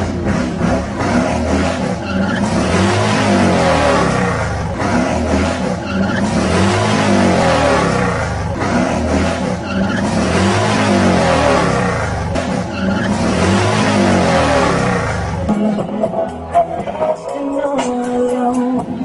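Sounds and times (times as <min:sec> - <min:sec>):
engine revving hard: 0:00.0 - 0:15.5.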